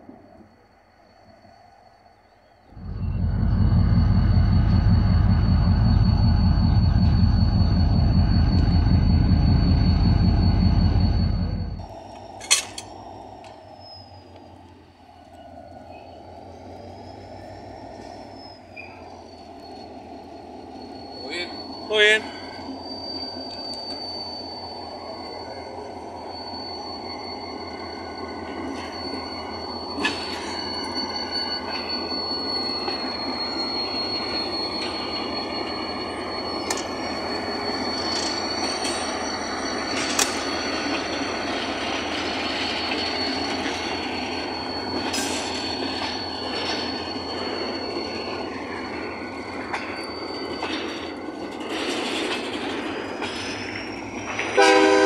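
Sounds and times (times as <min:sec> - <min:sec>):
diesel locomotive rumbling: 0:00.0 - 0:55.0
wheels squealing on rail: 0:00.0 - 0:55.0.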